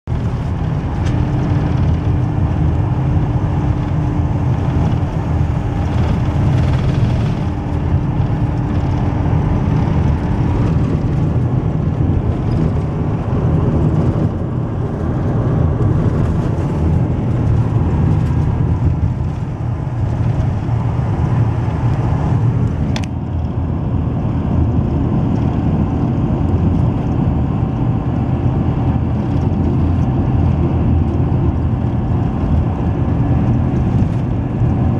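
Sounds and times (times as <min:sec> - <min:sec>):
car driving at speed: 0:00.0 - 0:34.9
wind: 0:00.1 - 0:34.9.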